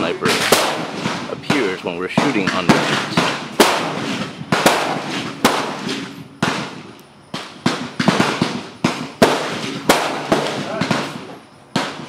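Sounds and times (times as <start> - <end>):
rifle shots with echo: 0.2 - 12.0.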